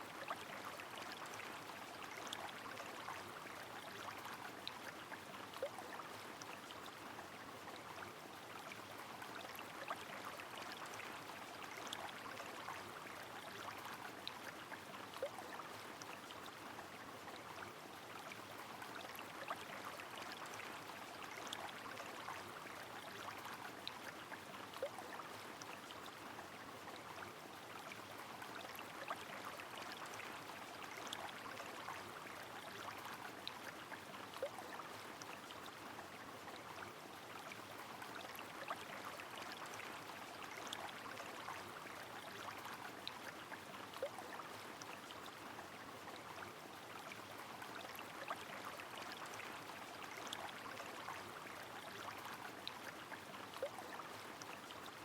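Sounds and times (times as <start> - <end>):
flowing river: 0.0 - 55.0.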